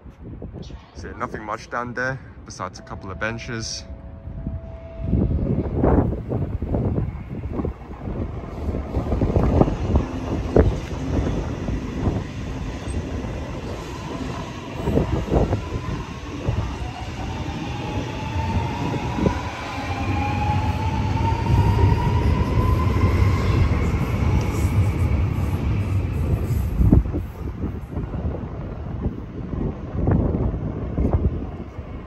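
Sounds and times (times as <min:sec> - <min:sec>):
wheels rumbling on rail: 0:03.8 - 0:32.0.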